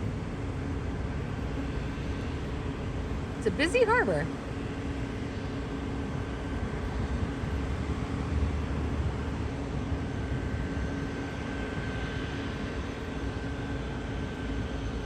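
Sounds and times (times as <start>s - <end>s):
faint humming tones: 0.0s - 15.0s
low mechanical rumble: 0.0s - 15.0s.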